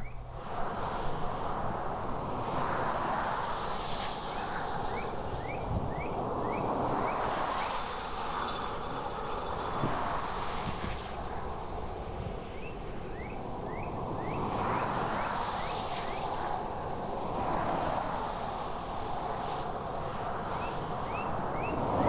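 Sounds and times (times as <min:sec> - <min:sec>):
distant road traffic: 0:00.0 - 0:22.0.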